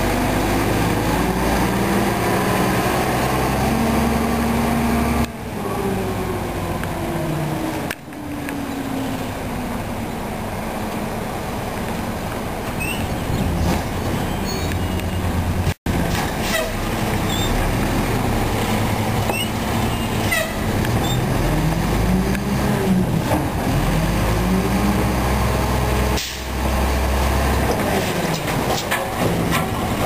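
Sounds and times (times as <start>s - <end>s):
garbage truck diesel engine revving: 0.0s - 11.6s, 12.5s - 30.0s.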